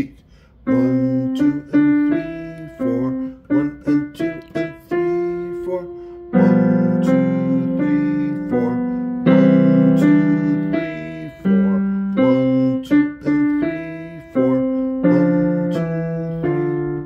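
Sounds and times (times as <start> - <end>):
digital piano chords: 0.7 - 17.0.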